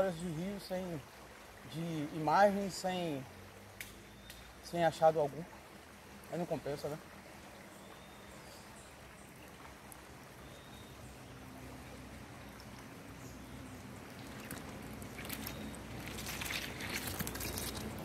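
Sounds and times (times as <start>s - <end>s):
water flowing over gravel: 0.0s - 18.0s.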